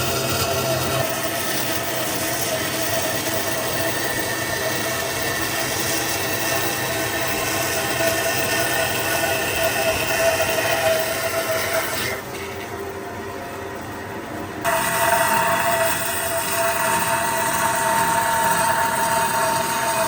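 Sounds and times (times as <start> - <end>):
steady mechanical noise: 0.0 - 20.0.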